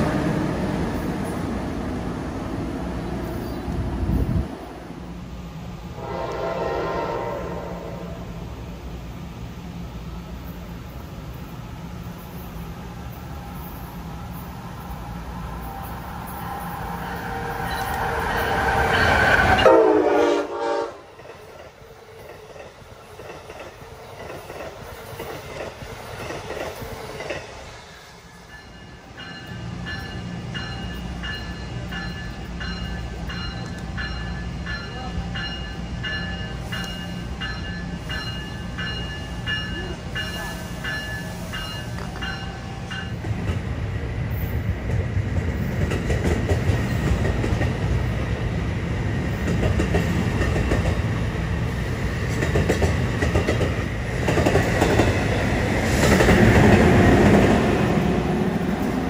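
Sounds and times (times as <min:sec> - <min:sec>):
passenger train passing: 0:00.0 - 0:59.0.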